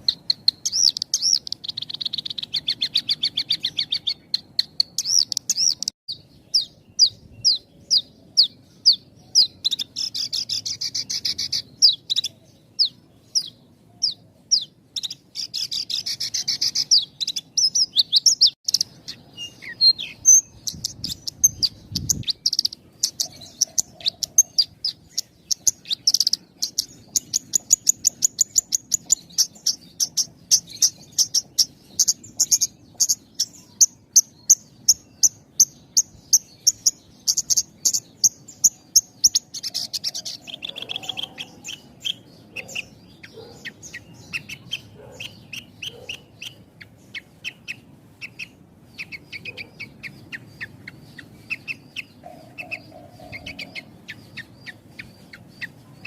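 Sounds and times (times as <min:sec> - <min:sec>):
bird singing high chirps and trills: 0:00.0 - 0:56.0.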